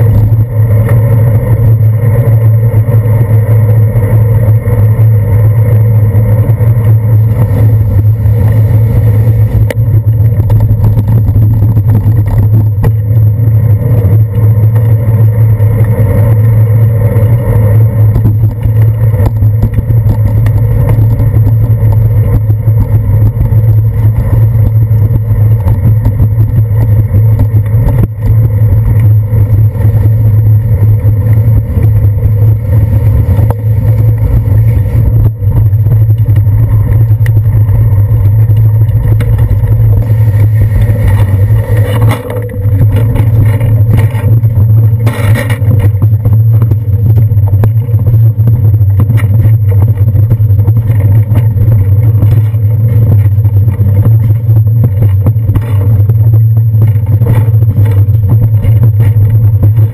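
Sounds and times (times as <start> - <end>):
bicycle tyres rumbling on wet pavement: 0.0 - 59.9.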